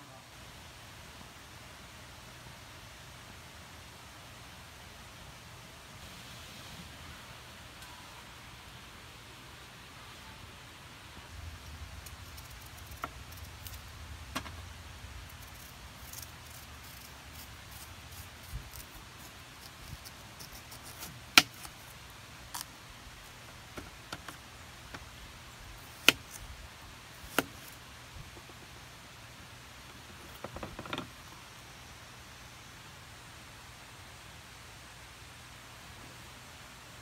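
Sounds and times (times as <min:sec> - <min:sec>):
faint hiss: 0:00.0 - 0:37.0.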